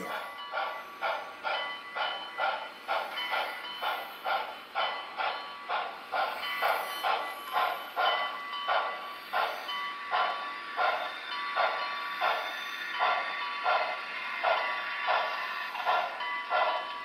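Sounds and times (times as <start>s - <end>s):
steam locomotive exhaust chuffs: 0.0s - 17.0s.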